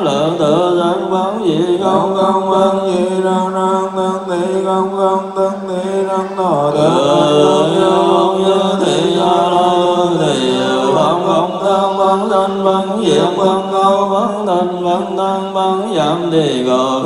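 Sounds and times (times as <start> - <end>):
male voices chanting: 0.0 - 17.0.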